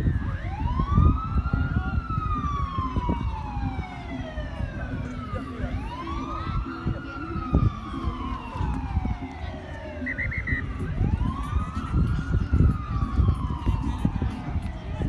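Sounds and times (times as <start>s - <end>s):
wailing siren: 0.0s - 15.0s.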